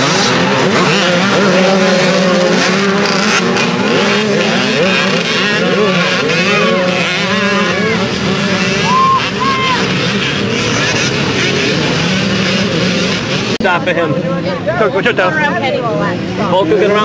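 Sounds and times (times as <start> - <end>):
dirt bikes revving and accelerating: 0.0 - 17.0.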